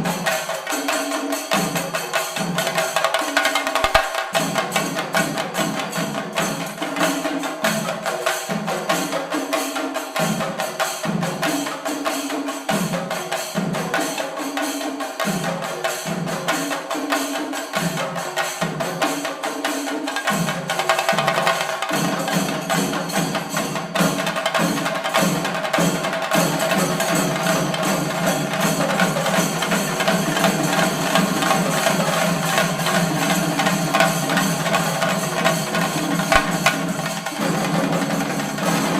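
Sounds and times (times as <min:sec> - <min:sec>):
drums beaten with sticks: 0:00.0 - 0:38.9.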